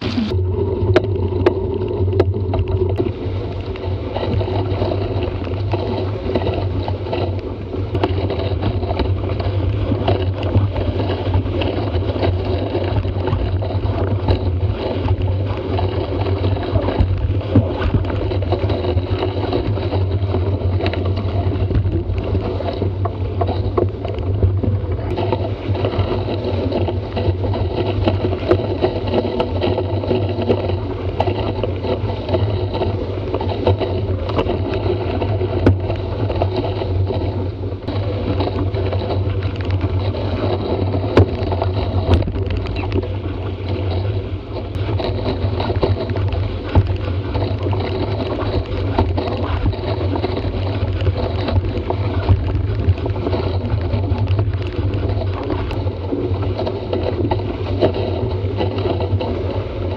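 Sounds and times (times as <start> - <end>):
water rushing off boat hull: 0.0 - 59.9
wind buffeting microphone: 0.0 - 59.9.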